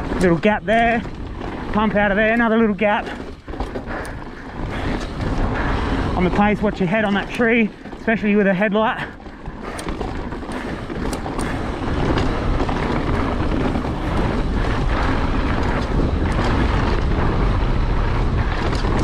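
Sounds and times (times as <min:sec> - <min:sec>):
bike tyres rumbling and rattling: 0:00.0 - 0:19.0
wind rushing over microphone: 0:00.0 - 0:19.0.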